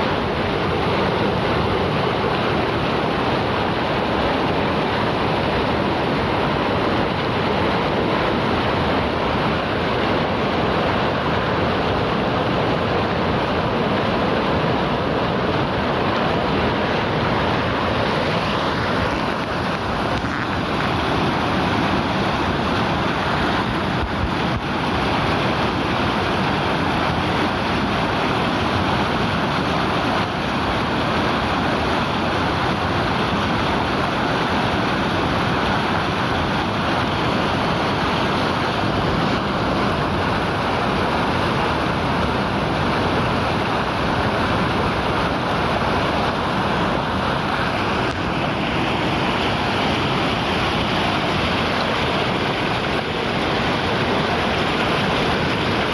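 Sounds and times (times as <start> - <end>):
river water rushing over rocks: 0.0 - 55.9.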